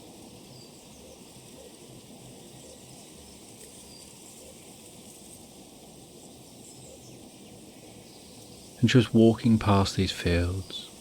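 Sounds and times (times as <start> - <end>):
faint bird chirps: 0.0 - 4.9, 6.2 - 11.0
insect hum: 0.0 - 11.0.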